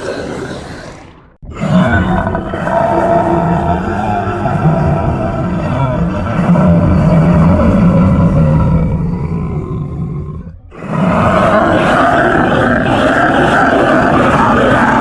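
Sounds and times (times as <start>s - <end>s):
brighter monster growl: 0.0s - 15.0s
low rough monster growl: 0.0s - 15.0s.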